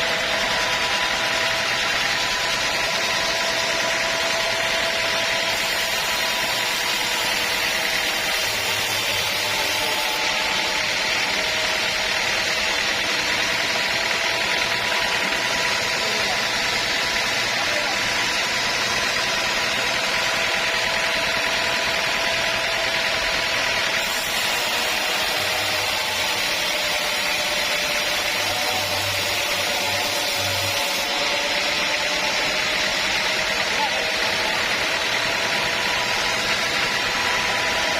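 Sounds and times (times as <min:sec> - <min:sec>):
sawmill machine whine: 0:00.0 - 0:37.9.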